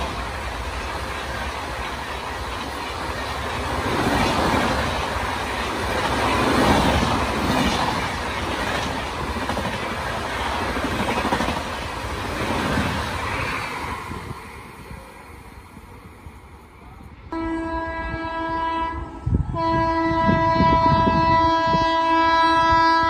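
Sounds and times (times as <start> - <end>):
train wheels rushing on rail: 0.0 - 22.8.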